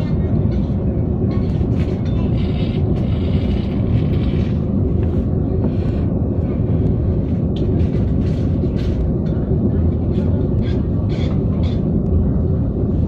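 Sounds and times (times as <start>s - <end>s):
train rumbling at speed: 0.0s - 13.0s.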